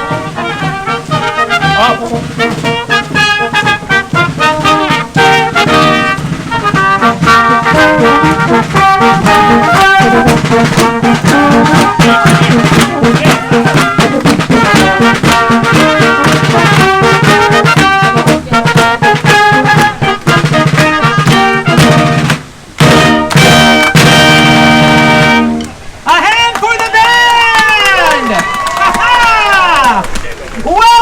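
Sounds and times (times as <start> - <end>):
brass band music over a beat: 0.0 - 27.3.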